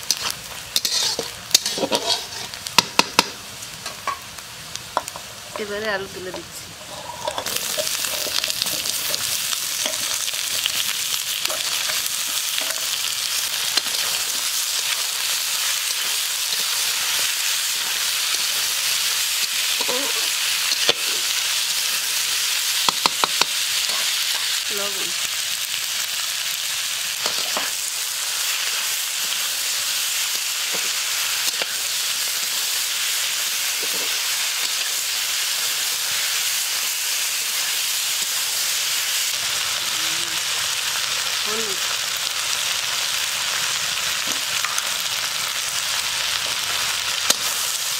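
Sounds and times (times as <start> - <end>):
potatoes sizzling in hot oil: 0.0 - 47.9.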